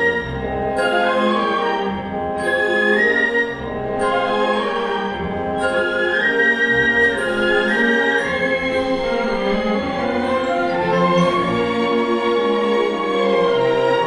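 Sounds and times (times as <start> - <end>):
orchestra playing: 0.0 - 14.0.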